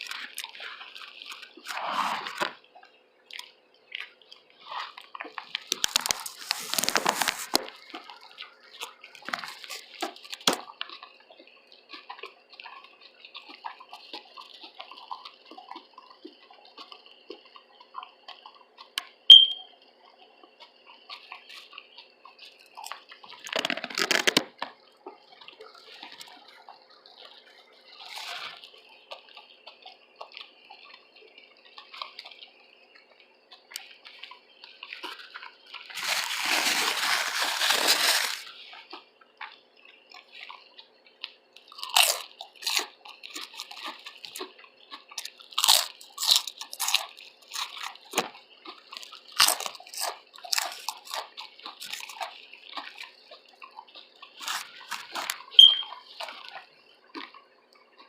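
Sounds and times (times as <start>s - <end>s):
wet chewing of sandwich: 0.0s - 58.0s.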